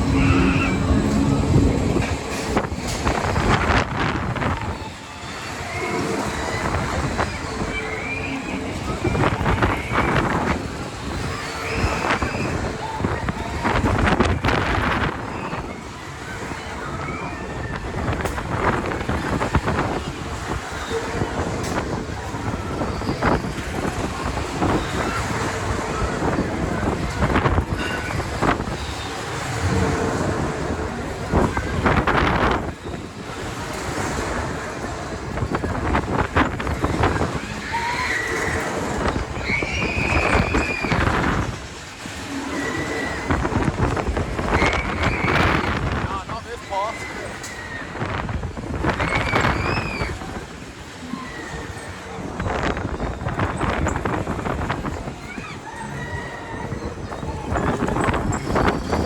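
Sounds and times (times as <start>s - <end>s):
fairground ride rumble and rattle: 0.0s - 59.0s
wind on microphone: 0.0s - 59.0s.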